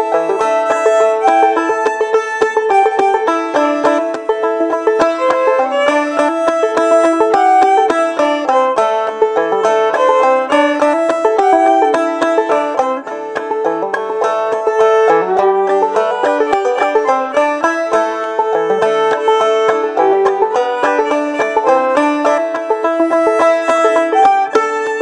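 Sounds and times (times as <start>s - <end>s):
fiddle melody: 0.0s - 25.0s
picked banjo notes: 0.0s - 25.0s.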